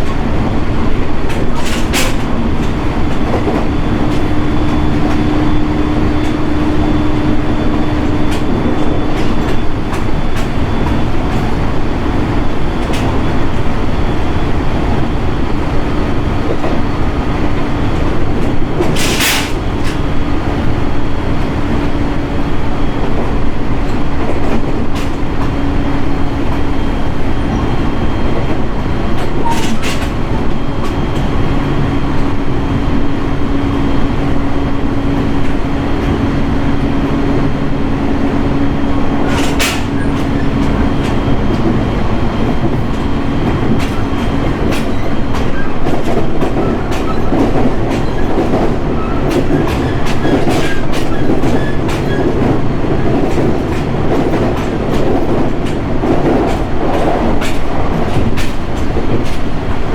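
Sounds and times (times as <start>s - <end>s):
track clicks and knocks: 0.0s - 59.9s
train wheels rumbling on rail: 0.0s - 59.9s.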